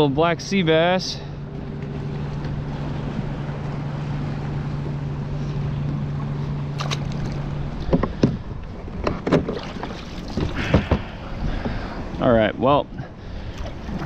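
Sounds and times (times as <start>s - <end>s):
steady low hum: 0.0s - 14.0s
wind: 0.0s - 14.0s
water lapping around kayak: 0.1s - 14.0s.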